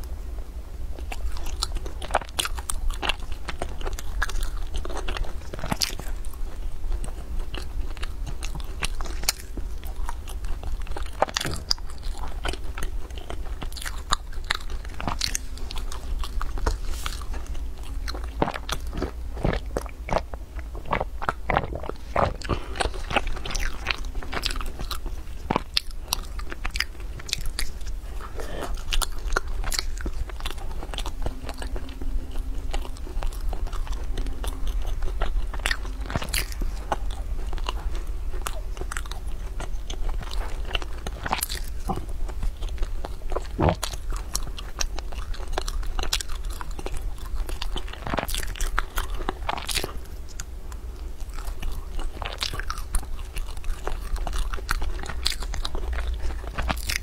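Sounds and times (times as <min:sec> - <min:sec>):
soft chewing: 0:00.0 - 0:57.0
steady low hum: 0:00.0 - 0:57.0
crunching pastry bites: 0:01.0 - 0:57.0.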